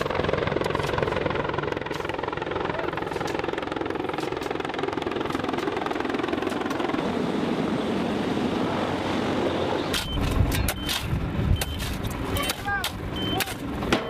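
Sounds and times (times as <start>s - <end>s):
helicopter rotors chopping: 0.0s - 14.0s.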